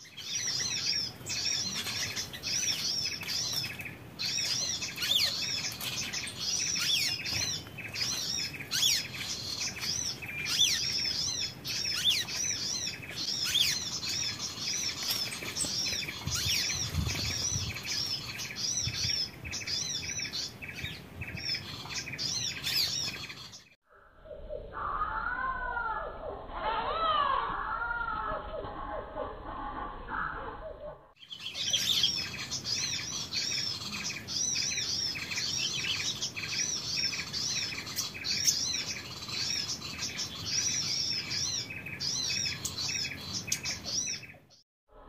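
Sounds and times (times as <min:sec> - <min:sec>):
small songbirds chirping: 0:00.0 - 0:24.1, 0:31.1 - 0:44.6.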